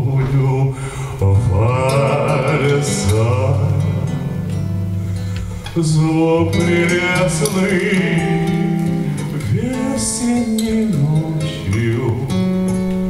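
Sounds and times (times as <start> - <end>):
man singing: 0.0 - 12.9
acoustic guitar: 0.0 - 13.0.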